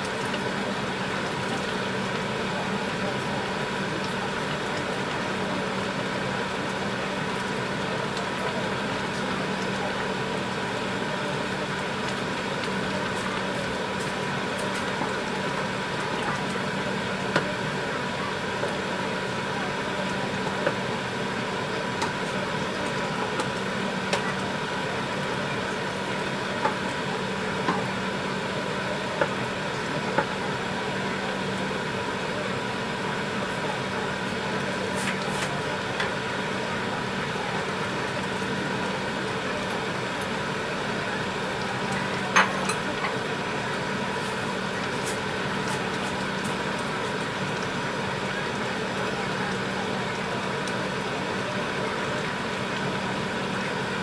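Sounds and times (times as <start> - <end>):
sauce simmering in a pot: 0.0 - 54.0
steady mechanical hum: 0.0 - 54.0.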